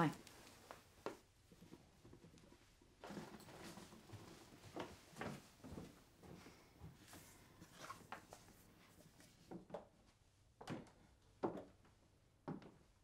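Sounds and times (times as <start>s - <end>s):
faint small knocks and rustles: 0.2s - 13.0s.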